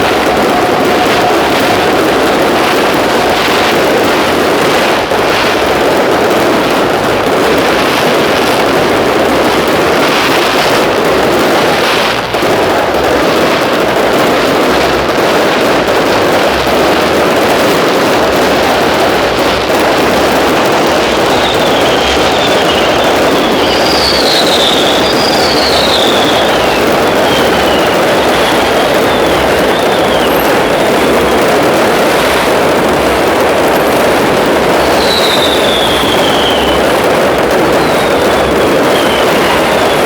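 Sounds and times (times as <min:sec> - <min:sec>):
fireworks bursts and crackle: 0:00.0 - 0:40.0.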